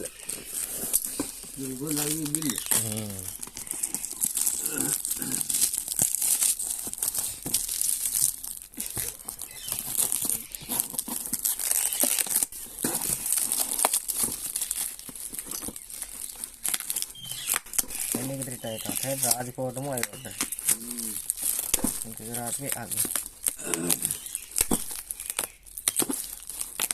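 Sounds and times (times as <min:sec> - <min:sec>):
packaging crinkling: 0:00.0 - 0:26.9.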